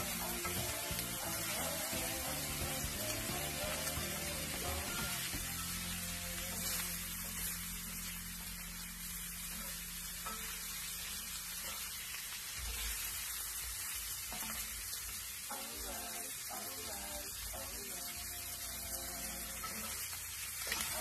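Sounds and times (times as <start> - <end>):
meat sizzling in a skillet: 0.0 - 21.0.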